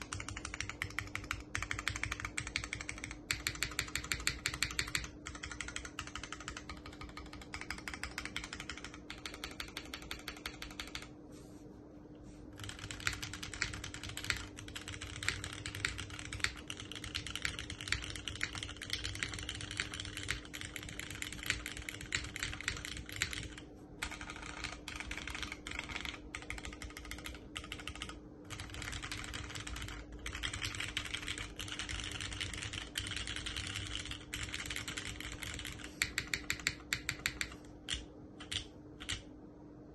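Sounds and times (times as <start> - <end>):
typing on mechanical keyboard: 0.0 - 11.1, 12.6 - 39.3.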